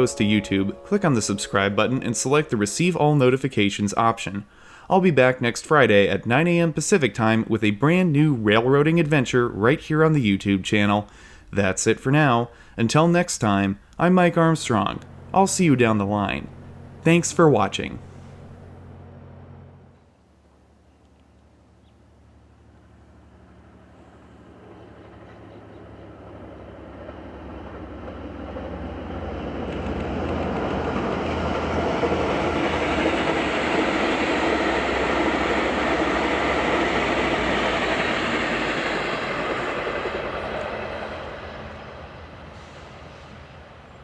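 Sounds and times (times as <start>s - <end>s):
passenger train passing: 0.0s - 20.0s, 22.2s - 44.0s.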